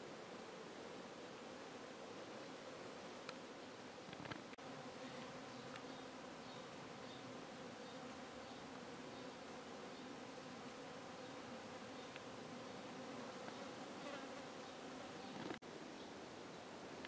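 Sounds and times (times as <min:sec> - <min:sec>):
flying insect buzzing: 0:00.0 - 0:15.6.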